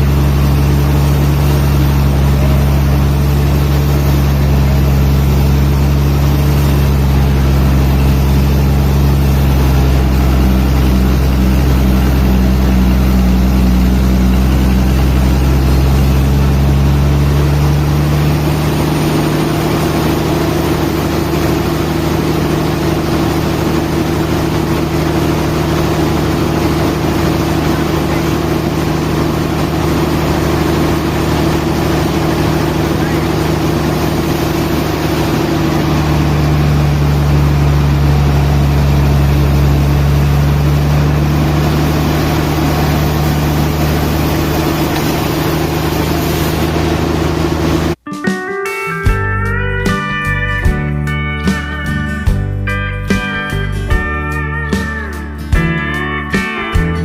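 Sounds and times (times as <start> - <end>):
sawmill machinery humming: 0.0 - 48.0.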